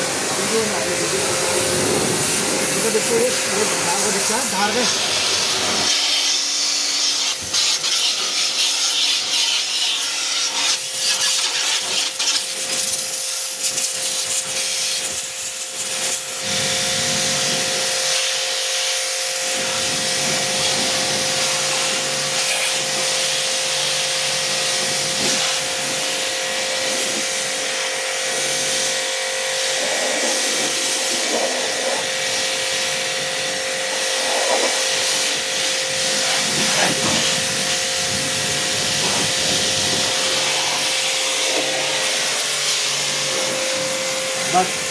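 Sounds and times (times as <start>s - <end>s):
pressure washer motor whine: 0.0s - 44.9s
water jet spraying: 0.0s - 44.9s.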